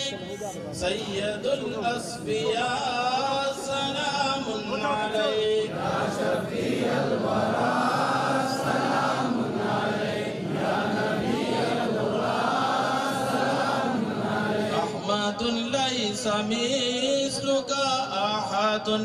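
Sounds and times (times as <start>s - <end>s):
crowd chanting together: 0.0s - 19.0s.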